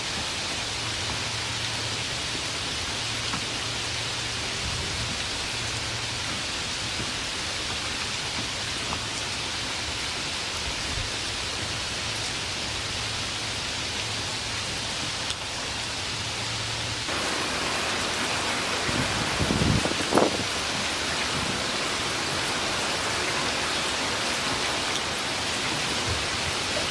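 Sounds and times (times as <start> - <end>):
steady rain hissing: 0.0 - 26.9.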